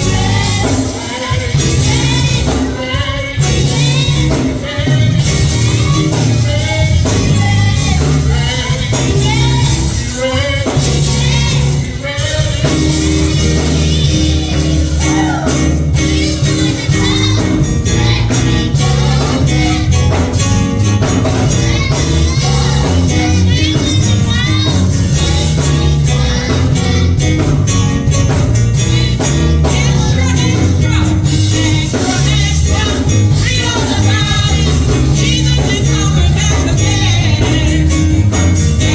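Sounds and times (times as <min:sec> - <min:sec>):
bass line: 0:00.0 - 0:38.9
gospel singing: 0:00.0 - 0:38.9.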